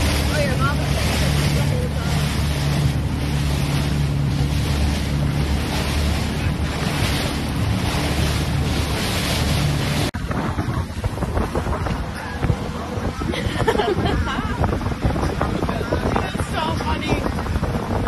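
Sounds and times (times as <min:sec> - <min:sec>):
boat engine running: 0:00.0 - 0:18.0
waves breaking: 0:00.0 - 0:18.0
wind buffeting microphone: 0:00.0 - 0:18.0.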